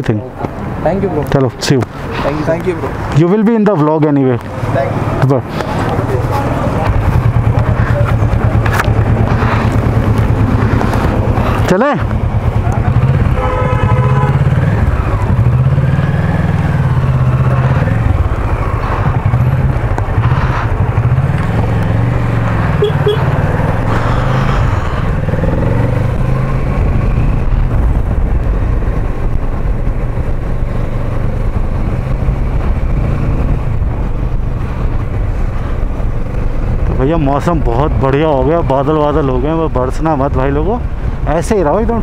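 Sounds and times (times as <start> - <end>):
wind and road rush: 0.0 - 42.0
motorcycle engine accelerating: 4.5 - 40.9.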